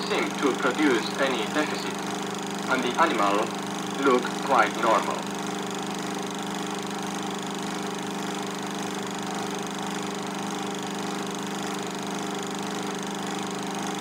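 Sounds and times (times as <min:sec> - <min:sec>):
film projector humming and whirring: 0:00.0 - 0:14.0.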